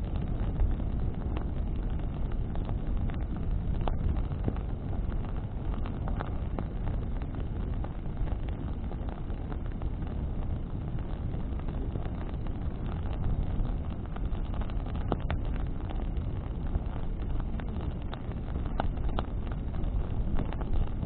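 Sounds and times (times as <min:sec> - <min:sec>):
bonfire flames rushing: 0:00.0 - 0:21.0
branches crackling in fire: 0:00.0 - 0:21.0
wind buffeting the microphone: 0:00.0 - 0:21.0.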